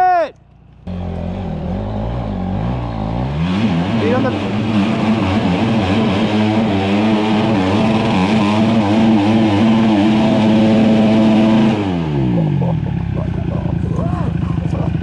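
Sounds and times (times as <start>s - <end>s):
dirt bike engine revving: 0.5s - 15.0s.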